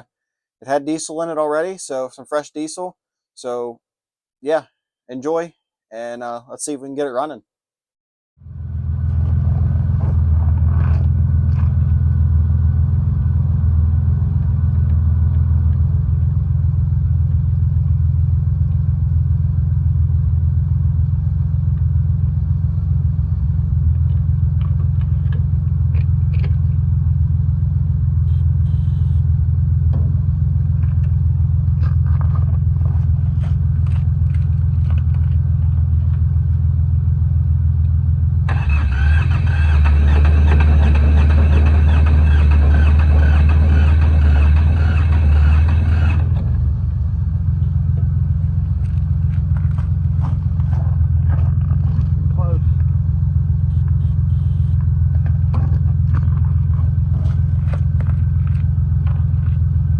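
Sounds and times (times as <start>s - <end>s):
engine idling: 8.4s - 59.9s.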